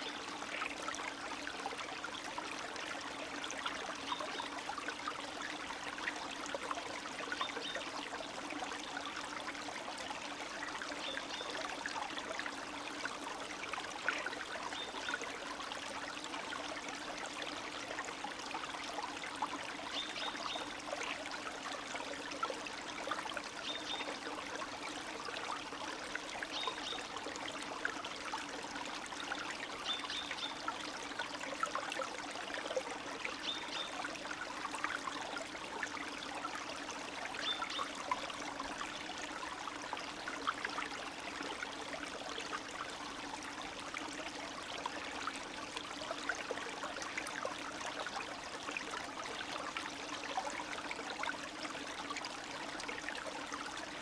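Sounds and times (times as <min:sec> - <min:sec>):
stream trickling and burbling: 0:00.0 - 0:54.0.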